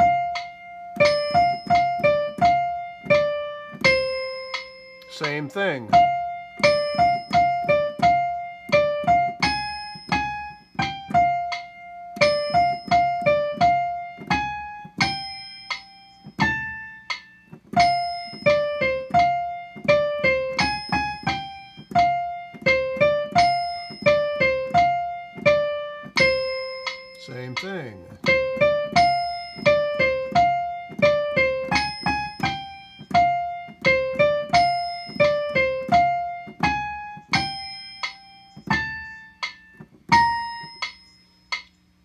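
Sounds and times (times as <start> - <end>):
piano single-note melody: 0.0 - 41.8.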